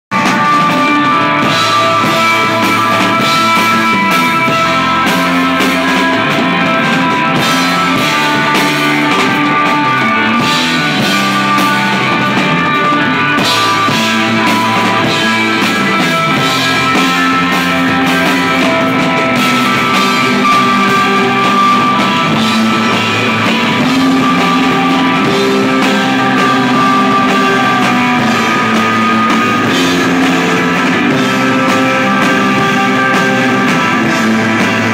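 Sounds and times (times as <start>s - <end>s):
drum kit: 0.1s - 34.9s
electric guitar held notes: 0.1s - 34.9s.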